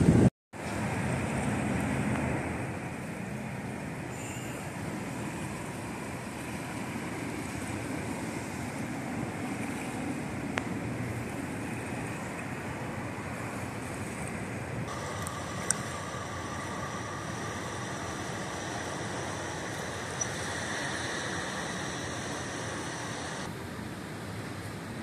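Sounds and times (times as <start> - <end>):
floodwater rushing: 0.6 - 24.9.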